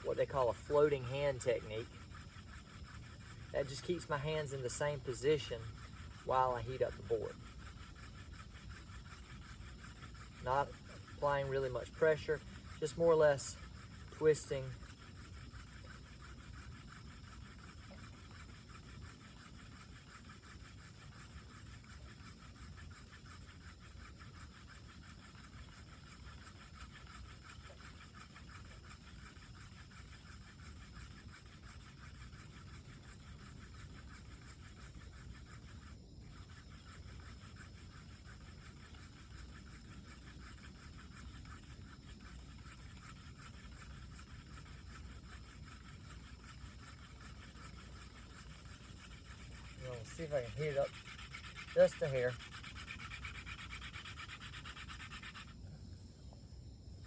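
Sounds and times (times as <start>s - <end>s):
wood rubbing on wood: 0.0s - 55.6s.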